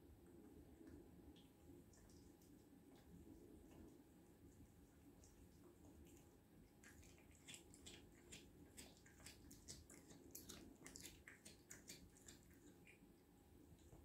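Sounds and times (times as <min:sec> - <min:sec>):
cat chewing: 0:00.8 - 0:13.2.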